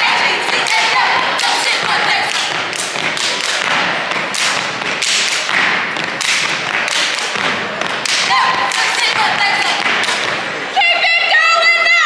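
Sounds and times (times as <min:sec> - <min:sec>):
hands clapping: 0:00.0 - 0:10.5.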